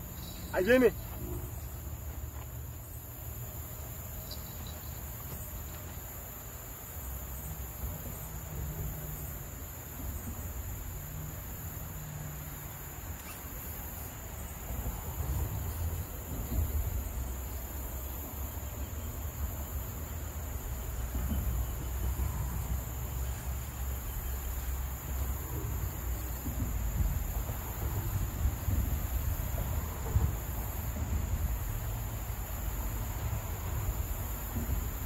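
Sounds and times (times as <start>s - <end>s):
insects buzzing: 0.0s - 35.0s.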